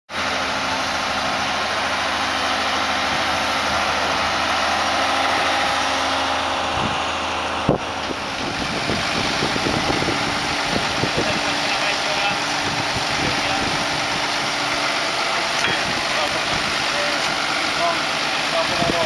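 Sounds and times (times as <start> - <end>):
boat lift engine running: 0.1 - 19.0.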